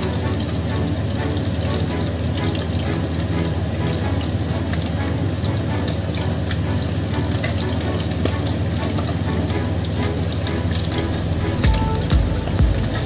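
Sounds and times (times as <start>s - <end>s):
oil crackling in a frying pan: 0.0s - 13.0s.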